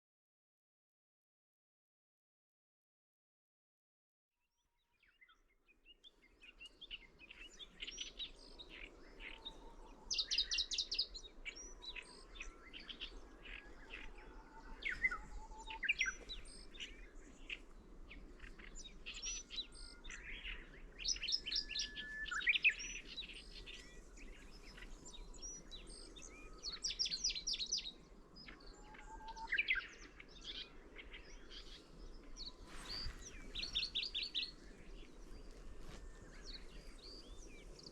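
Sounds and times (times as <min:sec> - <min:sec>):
warbler singing chipping notes: 0:05.0 - 0:37.9.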